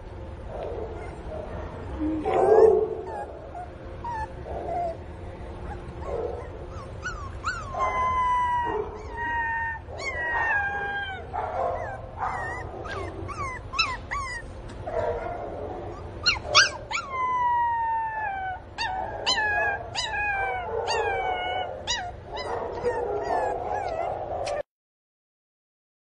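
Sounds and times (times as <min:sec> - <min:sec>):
puppy whining and yelping: 0:00.9 - 0:01.3, 0:02.2 - 0:24.6.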